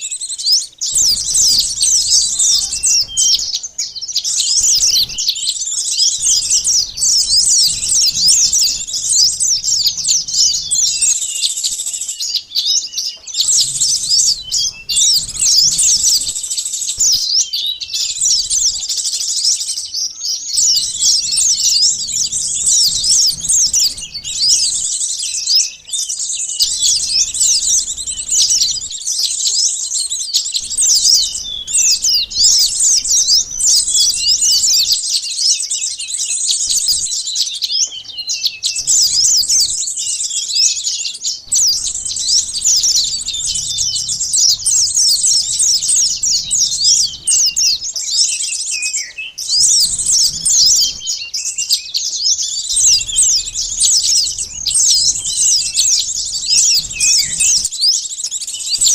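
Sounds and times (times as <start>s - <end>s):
songbirds chirping and twittering: 0.0s - 58.9s.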